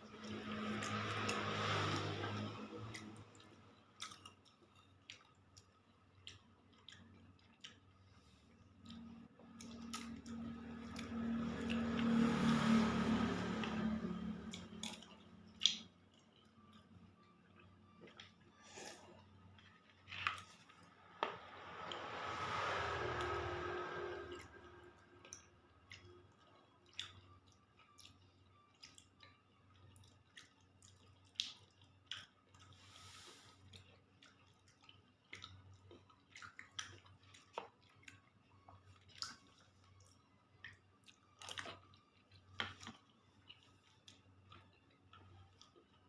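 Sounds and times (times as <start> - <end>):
person chewing softly: 0.0 - 46.0.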